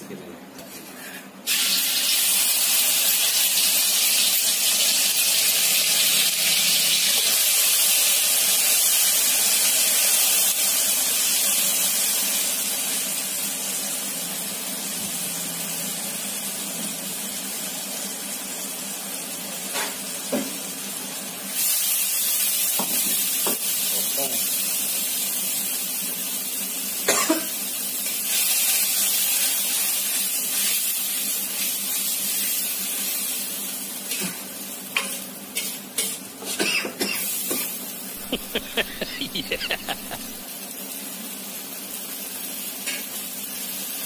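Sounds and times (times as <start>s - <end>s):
food sizzling in hot oil: 1.4s - 44.0s.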